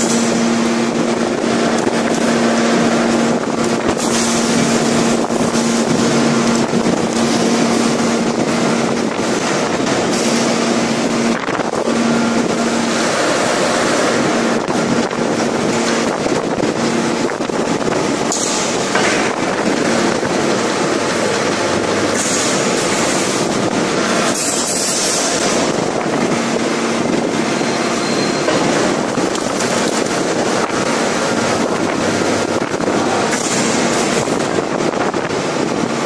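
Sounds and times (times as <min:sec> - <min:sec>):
hydraulic press mechanical rush: 0:00.0 - 0:36.0
machine hum: 0:00.0 - 0:36.0.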